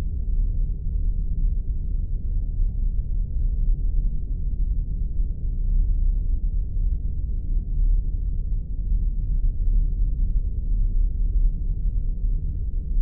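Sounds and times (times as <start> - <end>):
spaceship engine deep rumble: 0.0 - 13.0.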